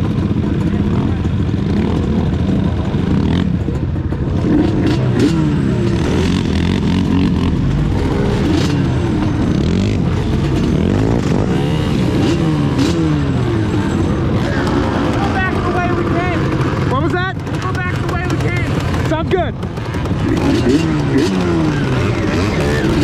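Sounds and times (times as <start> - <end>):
atv engines revving: 0.0 - 23.0.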